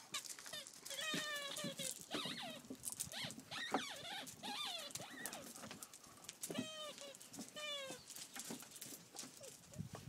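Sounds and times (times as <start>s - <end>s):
paws scuffling on gravel: 0.0s - 10.0s
puppies whining and yelping: 0.2s - 8.6s, 9.2s - 10.0s.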